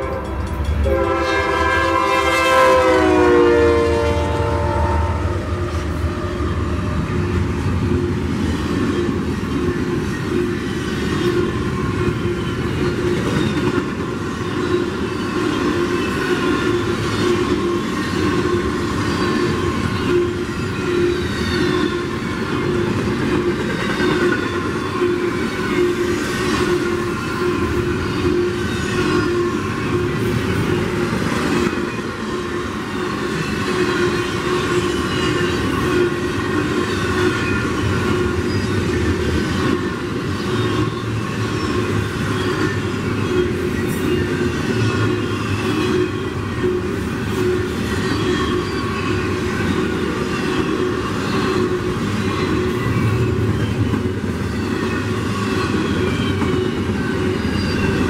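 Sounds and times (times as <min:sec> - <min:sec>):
freight train wheels clattering: 0:00.0 - 0:02.0, 0:05.4 - 0:58.0.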